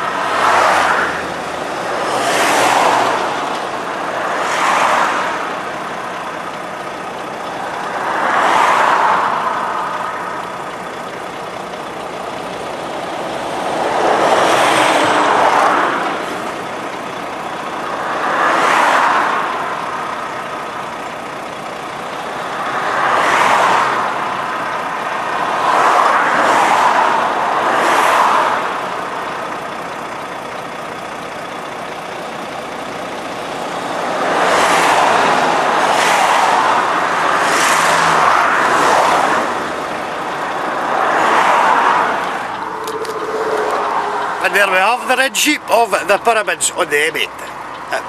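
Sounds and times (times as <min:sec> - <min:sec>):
vehicles rushing past: 0:00.0 - 0:48.0.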